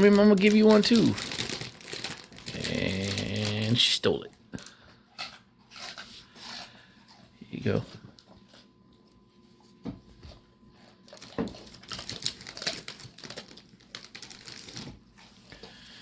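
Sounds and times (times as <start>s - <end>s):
dog crunching a treat: 0.0s - 9.2s, 10.7s - 16.0s.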